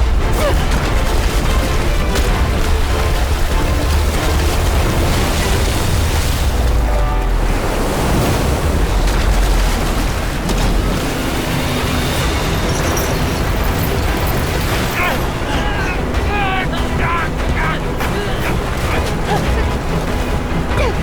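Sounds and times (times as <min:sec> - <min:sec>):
crashing waves: 0:00.0 - 0:21.0
dramatic music: 0:00.0 - 0:21.0
wind: 0:00.0 - 0:21.0.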